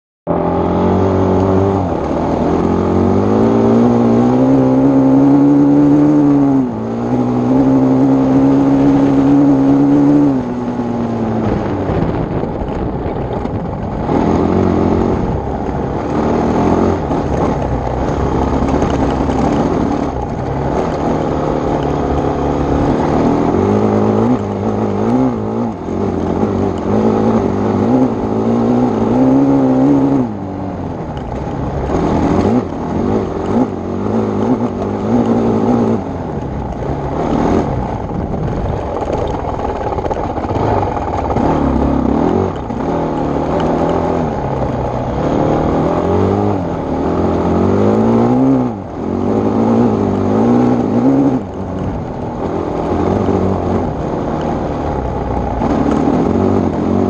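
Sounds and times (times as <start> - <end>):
dirt bike engine revving: 0.3 - 12.2, 13.8 - 30.7, 31.4 - 57.0.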